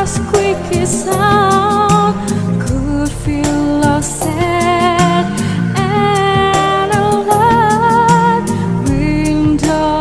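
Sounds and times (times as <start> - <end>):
wavering melody over beat: 0.0 - 10.0.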